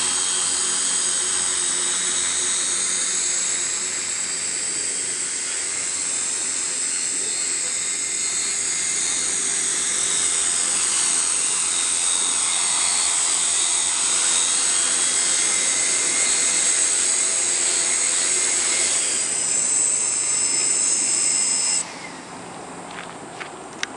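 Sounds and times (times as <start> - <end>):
drone propellers whining: 0.0 - 23.9.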